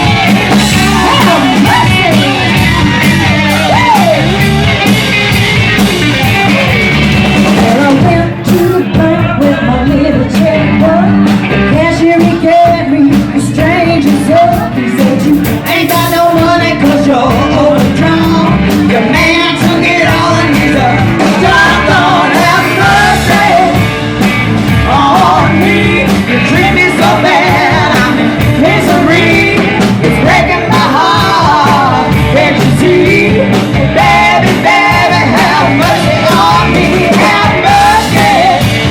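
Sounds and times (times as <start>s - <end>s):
rock and roll song: 0.0s - 38.9s.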